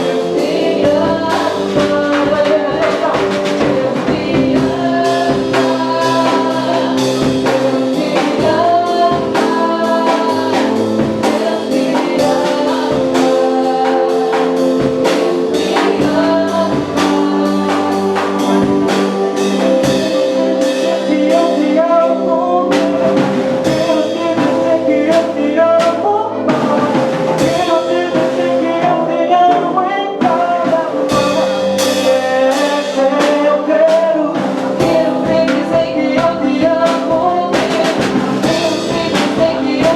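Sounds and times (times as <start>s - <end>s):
drums: 0.0s - 39.9s
person singing: 0.0s - 39.9s
sustained instrumental chords: 0.0s - 39.9s.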